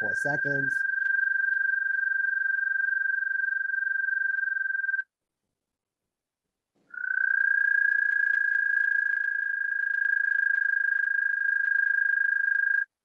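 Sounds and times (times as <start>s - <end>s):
toad trilling: 0.0s - 5.0s, 6.9s - 12.9s.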